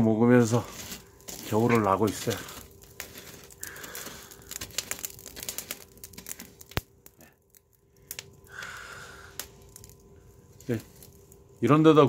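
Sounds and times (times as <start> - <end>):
wood fire crackling and popping: 0.0 - 12.0.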